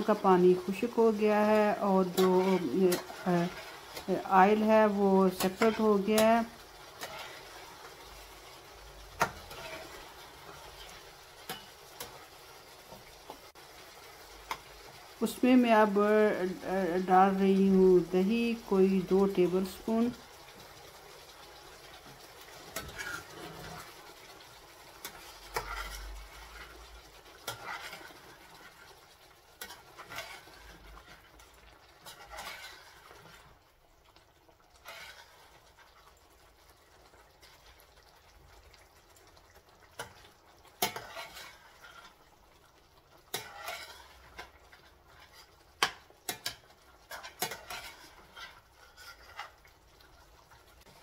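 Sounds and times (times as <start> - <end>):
utensil scraping frying pan: 0.0 - 33.6, 34.7 - 36.2, 39.8 - 51.0.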